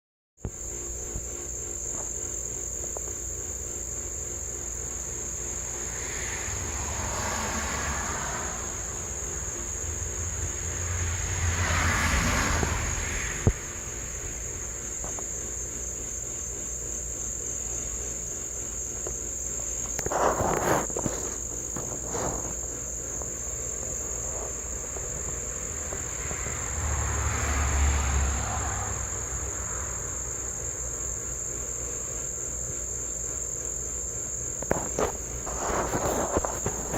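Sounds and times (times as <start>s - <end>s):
insect trill: 0.4s - 36.9s.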